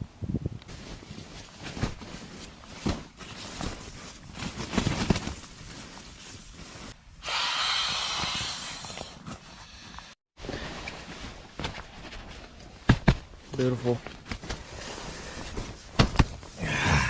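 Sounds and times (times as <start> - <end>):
camping gear rustling: 0.6 - 17.0.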